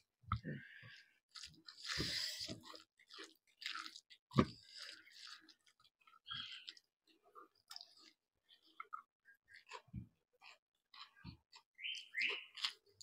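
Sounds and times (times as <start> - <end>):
person chewing: 0.3 - 13.0.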